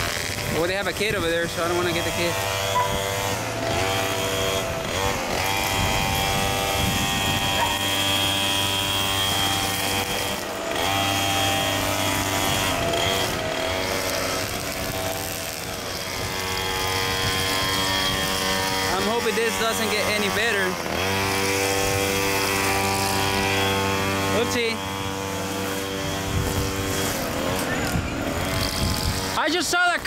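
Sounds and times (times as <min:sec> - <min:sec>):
leaf blower running: 0:00.0 - 0:30.0.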